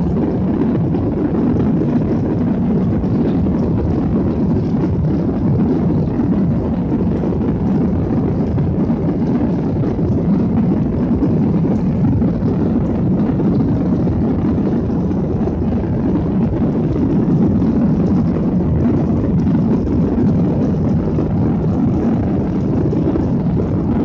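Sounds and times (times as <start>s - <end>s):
jet engine and airflow rumble: 0.0s - 24.0s.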